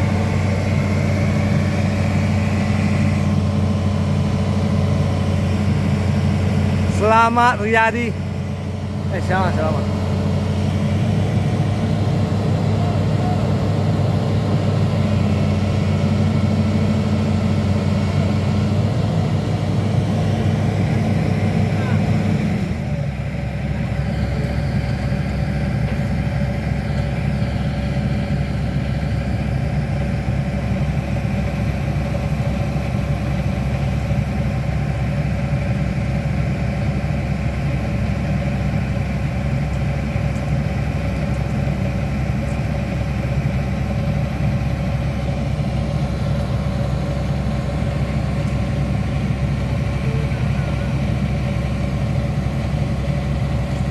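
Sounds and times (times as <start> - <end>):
excavator diesel engine idling: 0.0 - 53.9.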